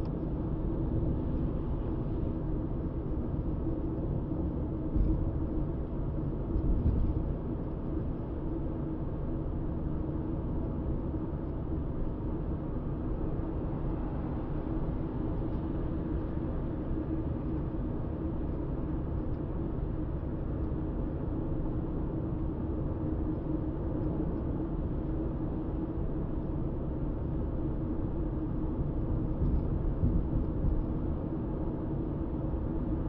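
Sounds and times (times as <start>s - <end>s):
car engine and tyre rumble: 0.0s - 33.0s
constant low hum: 0.0s - 33.0s.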